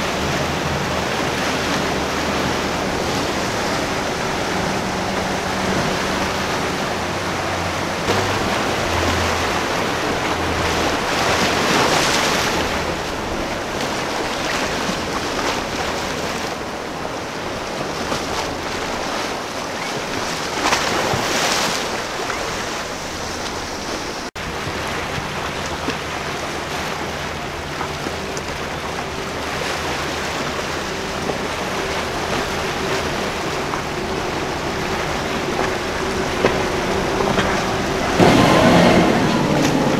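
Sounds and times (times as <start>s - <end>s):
outboard engines humming: 0.0s - 39.9s
surf rushing: 0.0s - 39.9s
wind on microphone: 0.0s - 39.9s.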